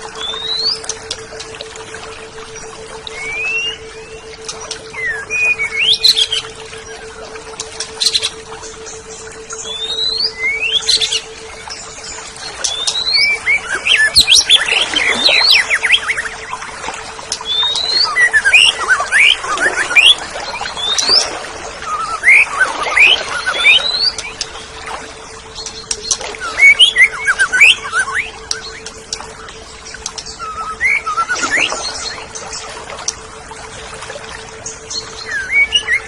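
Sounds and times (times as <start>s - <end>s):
bird singing whistled notes: 0.0s - 1.2s, 3.0s - 7.0s, 7.9s - 16.6s, 17.3s - 24.6s, 25.6s - 32.6s, 34.6s - 36.0s
faint steady hum: 0.0s - 36.0s.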